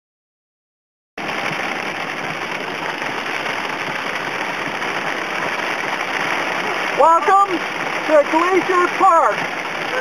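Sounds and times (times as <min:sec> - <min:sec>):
heavy rain on vehicle roof: 0:01.2 - 0:10.0
road noise: 0:01.2 - 0:10.0.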